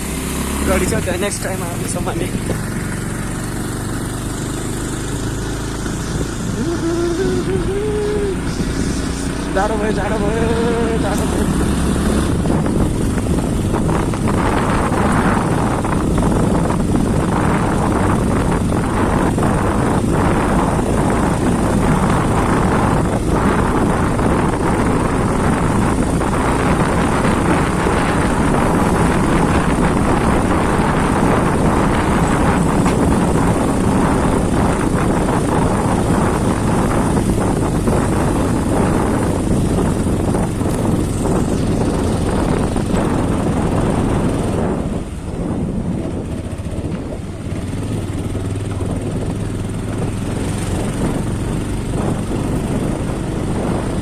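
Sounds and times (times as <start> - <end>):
motorcycle engine running: 0.0 - 54.0
wind on microphone: 0.0 - 54.0.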